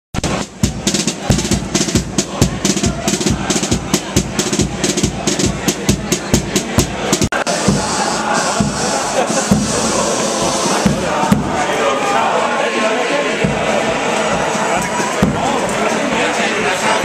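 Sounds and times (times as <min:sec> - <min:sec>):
drums beating brisk rhythm: 0:00.1 - 0:17.0
group singing: 0:00.2 - 0:17.0.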